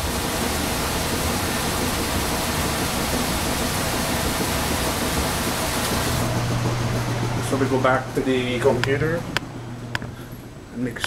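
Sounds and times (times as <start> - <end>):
air conditioning hiss: 0.0 - 11.0.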